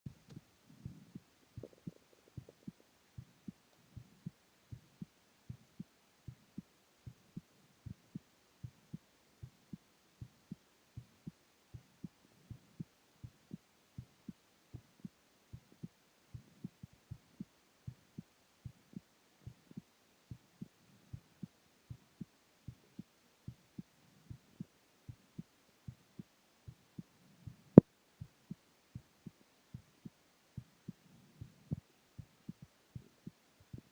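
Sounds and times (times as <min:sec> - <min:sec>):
heartbeat thuds: 0:00.1 - 0:33.9.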